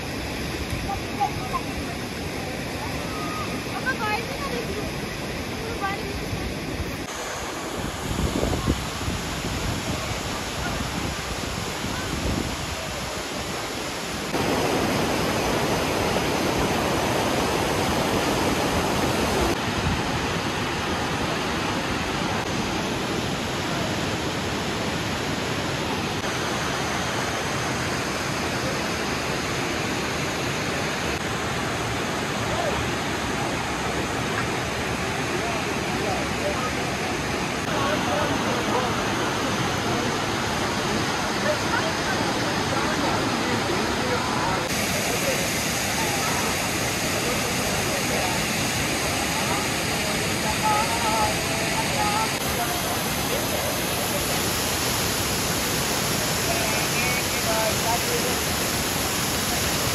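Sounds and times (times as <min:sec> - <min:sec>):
rushing stream and white water: 0:00.0 - 0:59.9.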